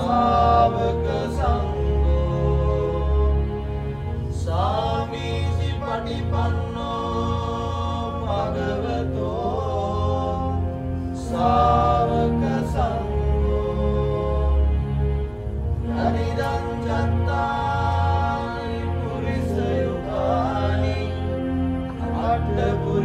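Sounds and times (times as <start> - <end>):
low droning accompaniment: 0.0 - 23.0
person singing slow chant-like melody: 0.0 - 23.0.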